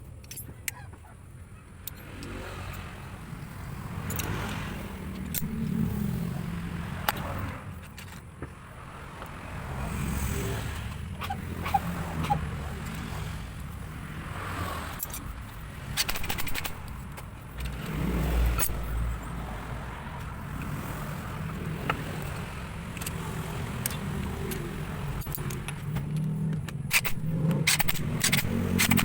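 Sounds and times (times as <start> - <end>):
sharp metallic clinks: 1.7 - 8.4, 10.2 - 29.0
engine running: 1.9 - 29.0.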